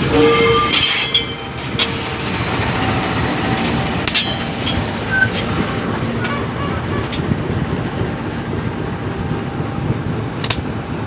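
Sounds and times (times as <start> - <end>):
locomotive rumbling along track: 0.0 - 11.0.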